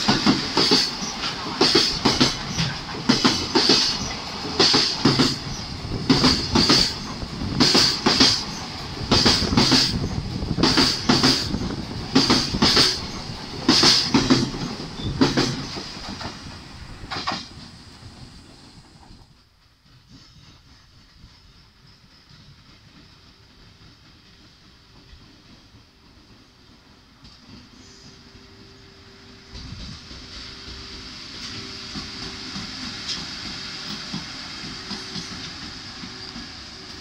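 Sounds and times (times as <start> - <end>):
train wheels clacking over rail joints: 0.0 - 27.8, 29.4 - 37.0
train rolling hiss: 0.0 - 37.0.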